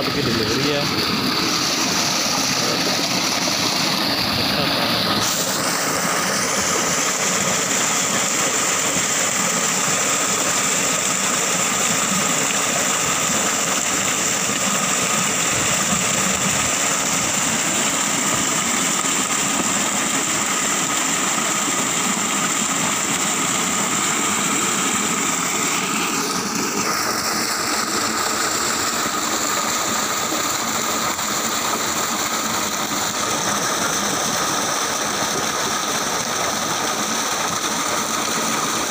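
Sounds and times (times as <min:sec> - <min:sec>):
pump machine whine: 0:00.0 - 0:38.9
water rushing from pipe: 0:00.0 - 0:38.9.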